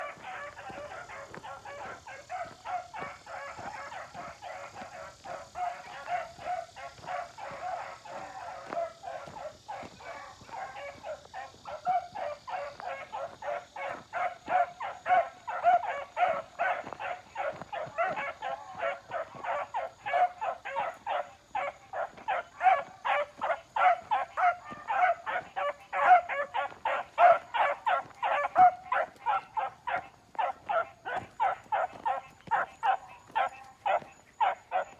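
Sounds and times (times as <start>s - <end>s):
puppies barking: 0.0s - 34.9s.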